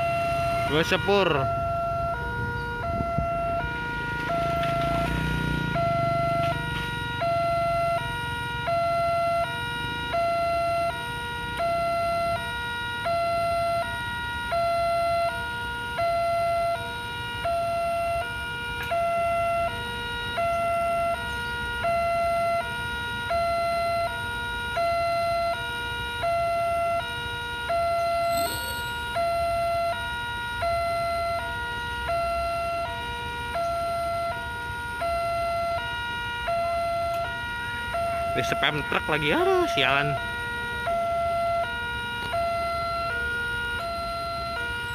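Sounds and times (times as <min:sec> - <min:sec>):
low rumble of road traffic: 0:00.0 - 0:44.9
two-tone crossing alarm: 0:00.0 - 0:44.9.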